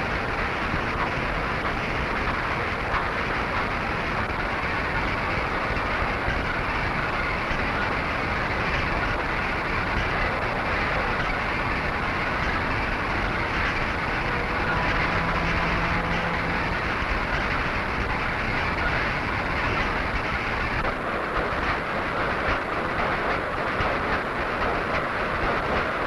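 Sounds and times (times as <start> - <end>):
factory machinery clattering: 0.1 - 21.2.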